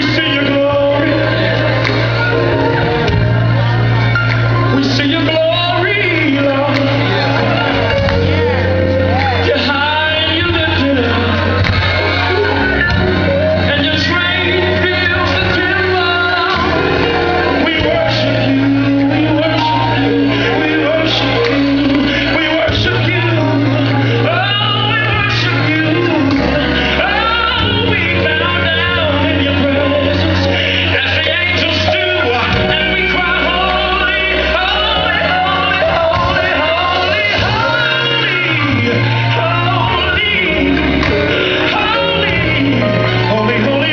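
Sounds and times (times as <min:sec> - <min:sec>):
gospel singers: 0:00.0 - 0:43.9.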